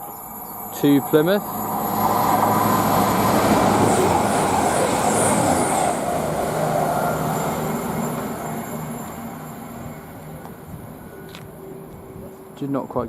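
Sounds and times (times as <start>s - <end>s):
diesel train passing at speed: 0.0s - 13.0s.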